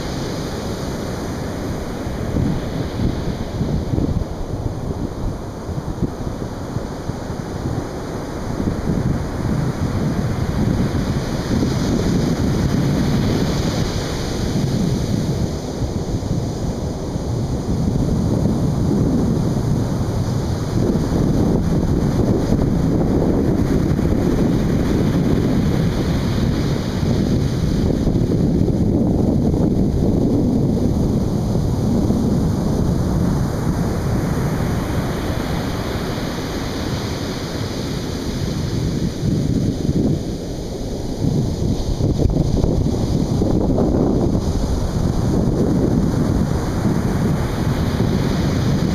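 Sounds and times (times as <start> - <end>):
surf washing onto beach: 0.0 - 48.9
wind buffeting microphone: 0.0 - 48.9.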